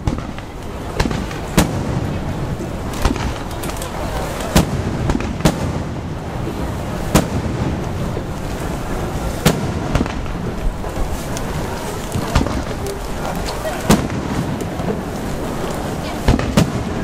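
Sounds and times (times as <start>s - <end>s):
firework bangs: 0.0s - 17.0s
steady hiss: 0.0s - 17.0s.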